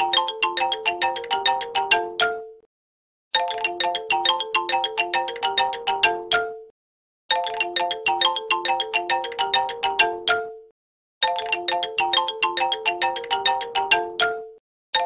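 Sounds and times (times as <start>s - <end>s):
bell-like ringtone jingle: 0.0s - 2.7s, 3.4s - 6.7s, 7.3s - 15.0s.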